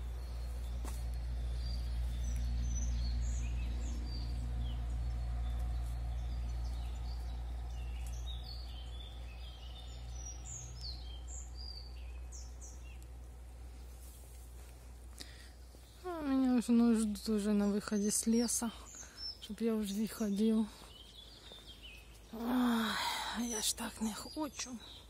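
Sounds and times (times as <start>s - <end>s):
low steady rumble: 0.0s - 25.0s
small birds chirping: 0.0s - 25.0s.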